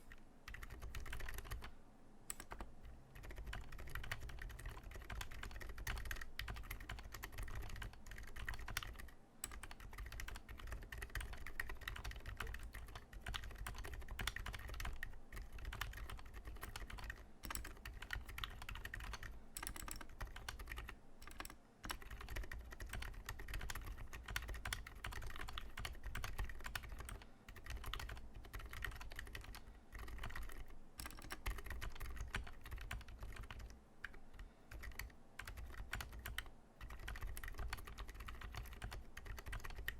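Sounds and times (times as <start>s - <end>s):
mechanical keyboard typing: 0.0s - 1.7s, 2.3s - 39.9s.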